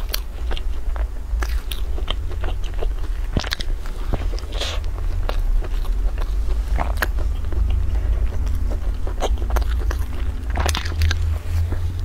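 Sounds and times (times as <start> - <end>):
chewing soft bread: 0.0 - 12.0
steady low rumble: 0.0 - 12.0.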